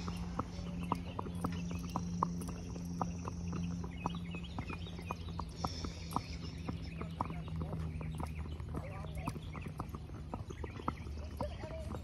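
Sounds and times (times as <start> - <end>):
horse hooves clip-clopping on asphalt: 0.0 - 12.0.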